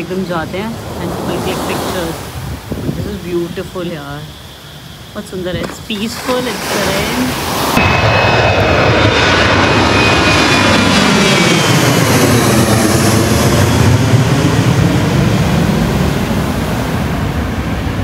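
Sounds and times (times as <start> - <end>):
high jet whine: 0.0 - 18.0
jet engine roar: 0.0 - 18.0.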